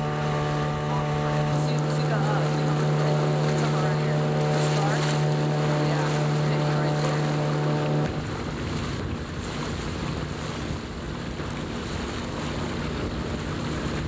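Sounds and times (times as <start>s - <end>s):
motor hum: 0.0s - 14.0s
rushing water: 0.0s - 14.0s
wind buffeting microphone: 0.0s - 14.0s.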